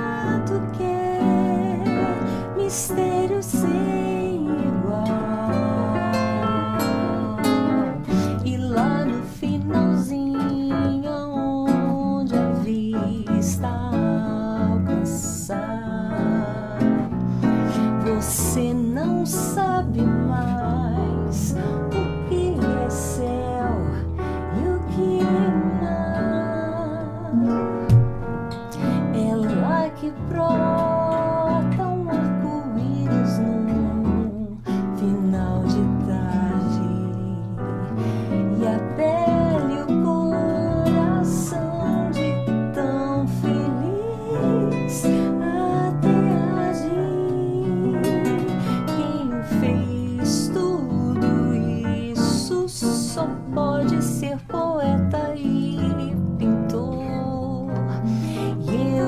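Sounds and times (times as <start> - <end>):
woman singing with vibrato: 0.0 - 27.9, 28.7 - 59.0
classical guitar: 0.0 - 59.0
keyboard piano chords: 0.0 - 59.0.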